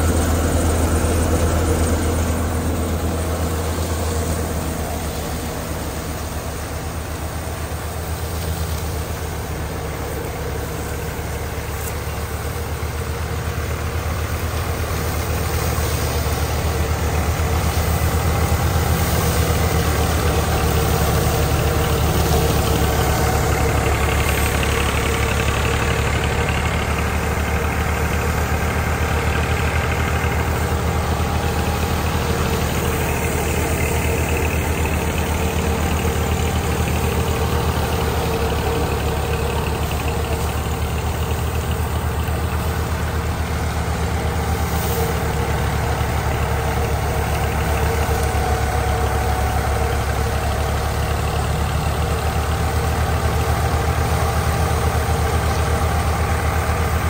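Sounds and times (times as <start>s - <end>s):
thresher humming: 0.0s - 57.0s
tractor diesel engine running: 0.0s - 57.0s.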